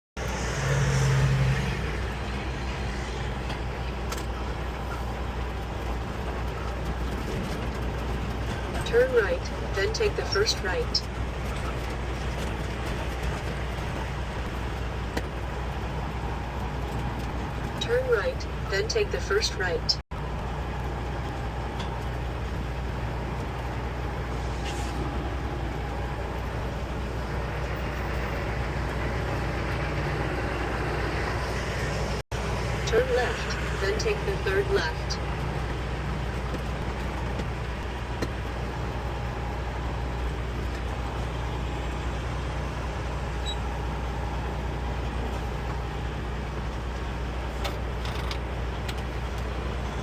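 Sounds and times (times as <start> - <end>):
truck diesel engine droning: 0.2 - 50.0.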